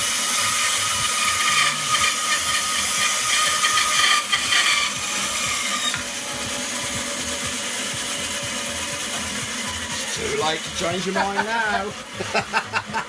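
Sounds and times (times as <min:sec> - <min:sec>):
bandsaw cutting metal: 0:00.0 - 0:13.0.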